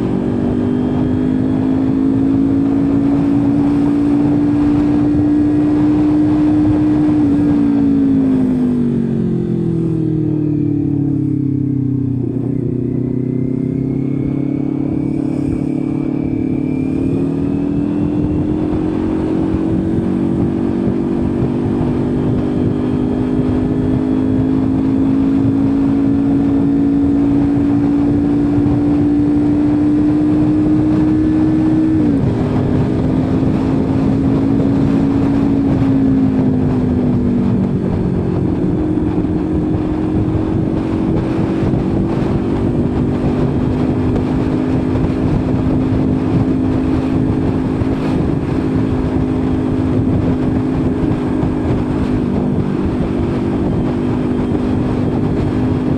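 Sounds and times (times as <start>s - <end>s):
motorcycle engine running: 0.0s - 55.9s
wind rushing: 10.8s - 55.9s.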